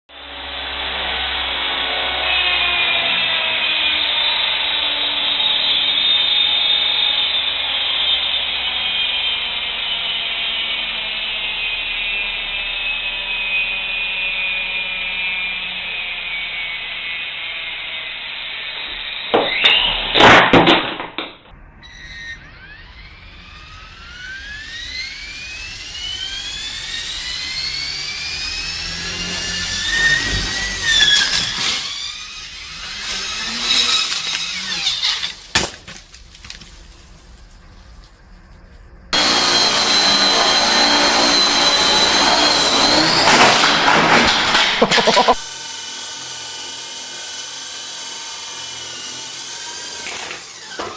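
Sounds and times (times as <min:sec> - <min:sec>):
turbine engine whine: 0:00.1 - 0:20.2, 0:21.4 - 0:50.9.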